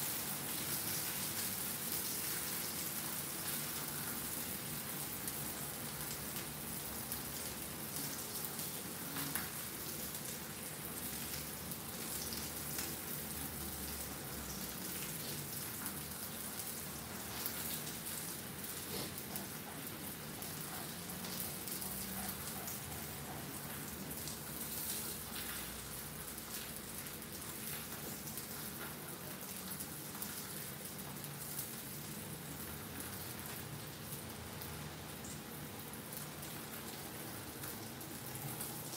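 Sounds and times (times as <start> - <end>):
fish sizzling in oil: 0.0 - 33.2.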